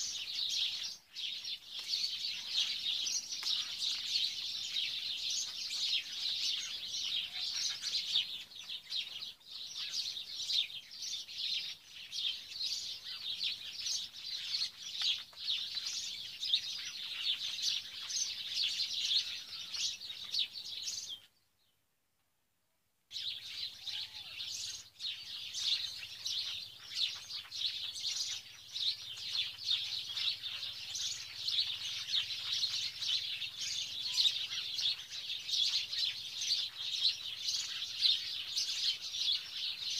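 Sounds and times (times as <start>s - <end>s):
small birds chirping: 0.0s - 21.8s, 23.1s - 39.9s.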